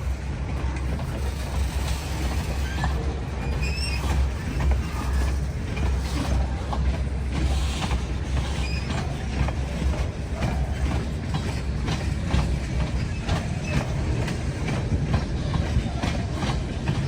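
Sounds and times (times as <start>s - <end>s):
train cars rattling: 0.0s - 17.0s
train wheels rumbling on rails: 0.0s - 17.0s
wheels clanking over rail joints: 0.0s - 17.0s.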